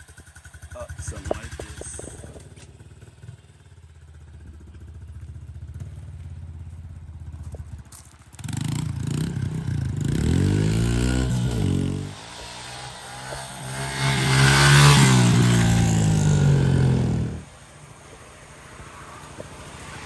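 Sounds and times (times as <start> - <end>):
dirt bike engine idling and revving: 0.0 - 20.0.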